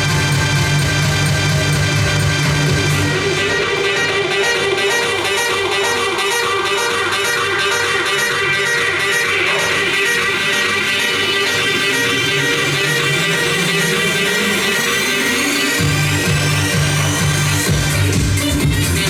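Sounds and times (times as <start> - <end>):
heavy bass: 0.0 - 19.0
music with guitar: 0.0 - 19.0.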